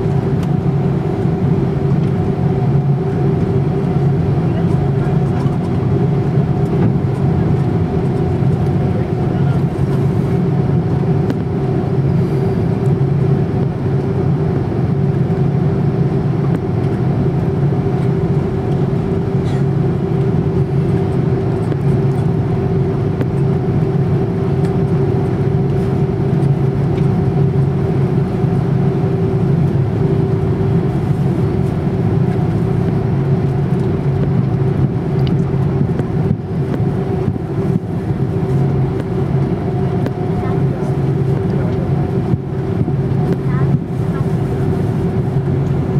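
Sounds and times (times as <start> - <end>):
aircraft cabin hum: 0.0 - 45.9.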